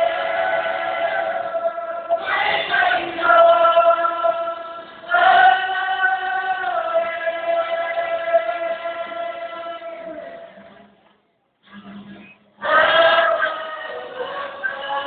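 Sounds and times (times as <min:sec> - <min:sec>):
group singing long held notes: 0:00.0 - 0:10.9, 0:12.6 - 0:15.0.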